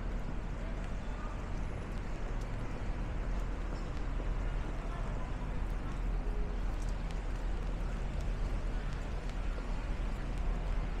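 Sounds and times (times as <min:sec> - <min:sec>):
faint voices of passersby: 0:00.0 - 0:11.0
traffic on wet road: 0:00.0 - 0:11.0.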